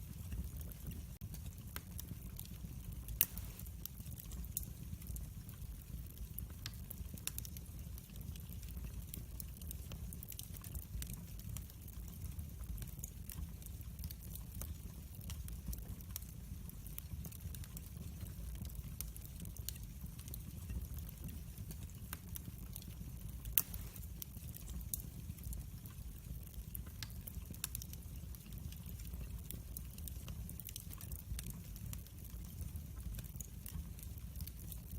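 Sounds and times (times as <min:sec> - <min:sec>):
fire crackling and popping: 0:00.0 - 0:34.9
fire rumbling in fireplace: 0:00.0 - 0:34.9.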